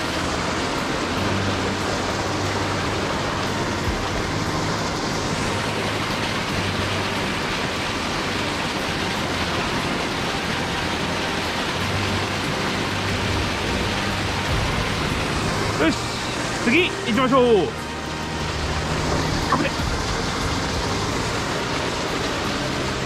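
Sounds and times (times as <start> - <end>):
rushing mountain stream: 0.0 - 23.0.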